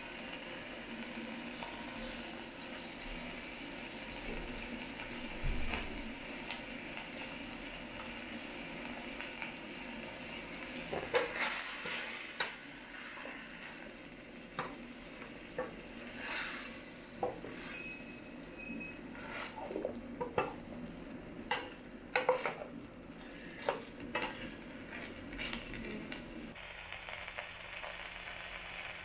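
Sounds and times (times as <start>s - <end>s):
light sizzle: 0.0s - 29.0s.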